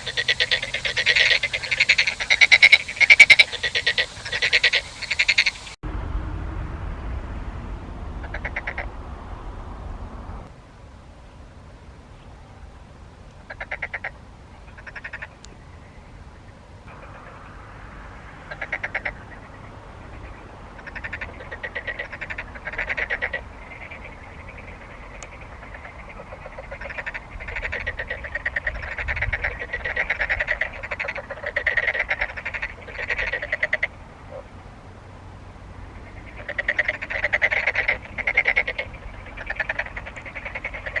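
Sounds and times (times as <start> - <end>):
frogs croaking: 0.0 - 5.8, 8.2 - 8.9, 13.4 - 41.0.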